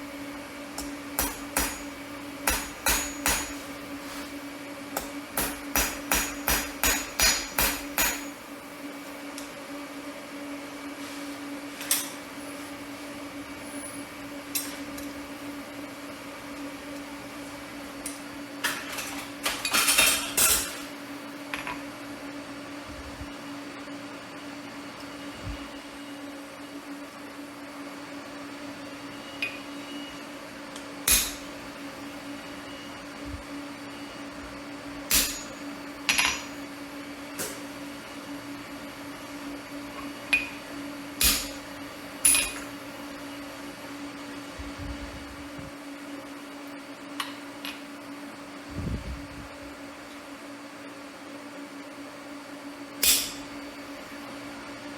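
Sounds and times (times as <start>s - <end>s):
low machine hum: 0.0s - 54.9s.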